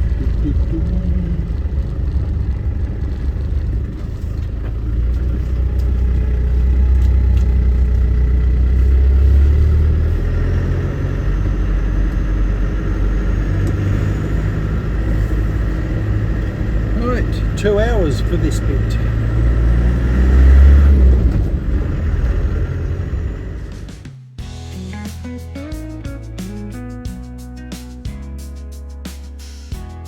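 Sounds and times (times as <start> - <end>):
diesel engine running: 0.0 - 27.8
road rumble: 0.0 - 28.1.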